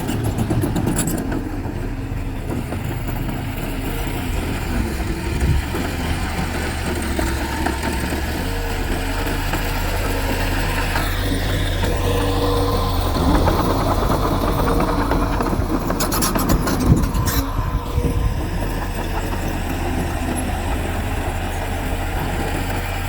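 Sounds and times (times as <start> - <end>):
diesel engine idling steadily: 0.0 - 23.0.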